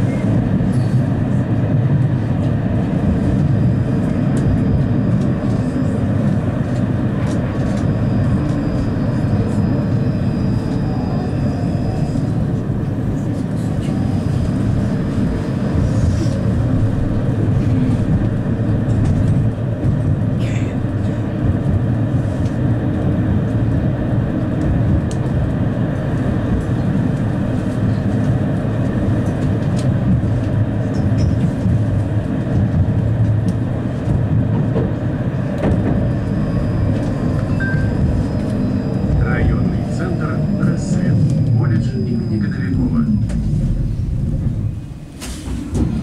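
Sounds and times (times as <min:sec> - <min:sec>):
tram wheels rumbling: 0:00.0 - 0:46.0.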